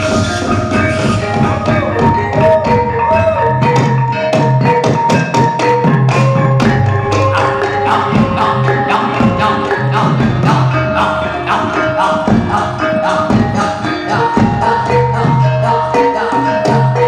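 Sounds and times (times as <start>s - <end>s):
drum and percussion beats: 0.0s - 17.0s
struck metal notes ringing: 0.0s - 17.0s.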